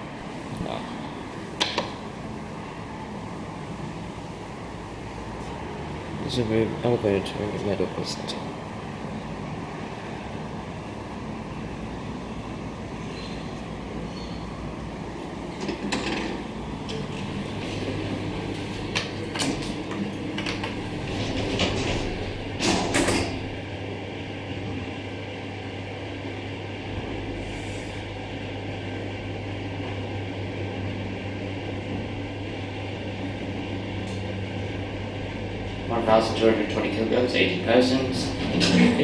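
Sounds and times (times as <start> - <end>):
elevator cab fan running: 0.0 - 39.0.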